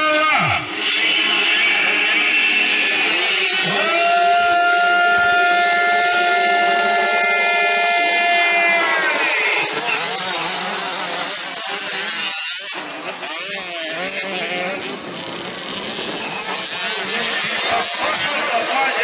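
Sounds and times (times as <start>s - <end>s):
motocross bikes racing: 0.0s - 19.0s.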